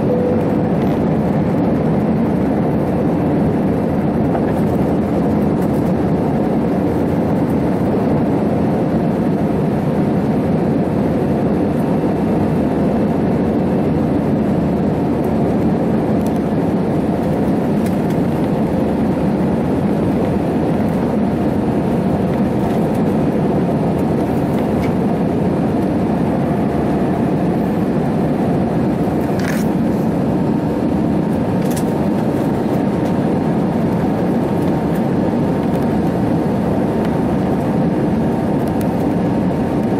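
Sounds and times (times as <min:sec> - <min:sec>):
jet cabin low rumble: 0:00.0 - 0:39.9.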